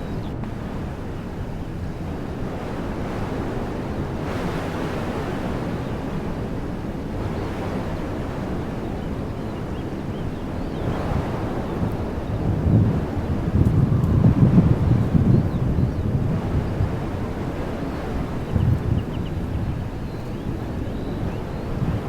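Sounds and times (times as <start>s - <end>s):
wind blowing through trees: 0.0s - 22.0s.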